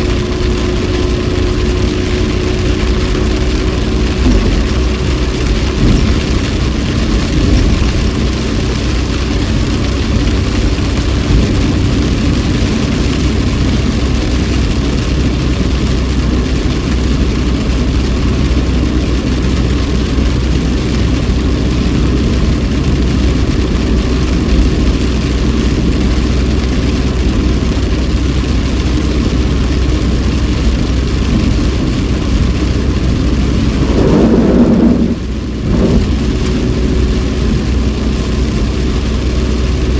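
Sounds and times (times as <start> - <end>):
car engine hum: 0.0 - 39.9
tyres hissing on wet road: 0.0 - 39.9.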